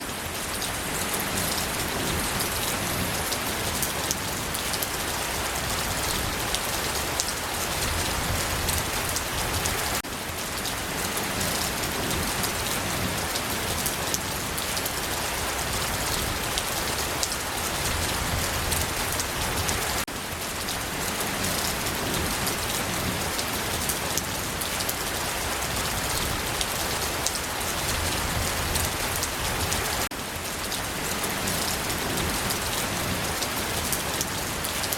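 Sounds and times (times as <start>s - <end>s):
rain pattering on a surface: 0.0s - 34.9s.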